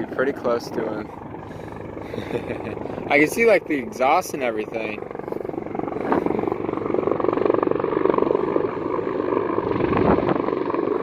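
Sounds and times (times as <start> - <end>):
helicopter rotor chop: 0.0 - 11.0.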